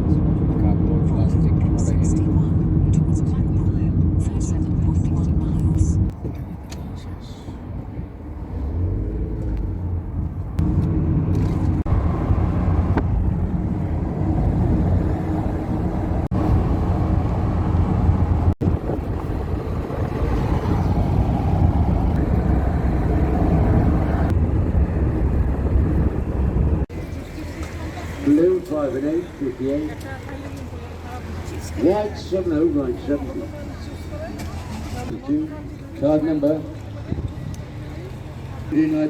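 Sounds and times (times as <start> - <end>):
low vehicle rumble: 0.0 - 39.0.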